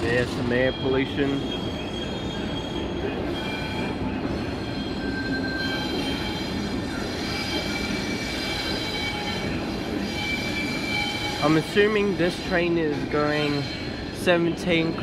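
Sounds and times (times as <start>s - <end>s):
diesel locomotive engine rumble: 0.0s - 15.0s
wheels squealing against rails: 0.0s - 15.0s.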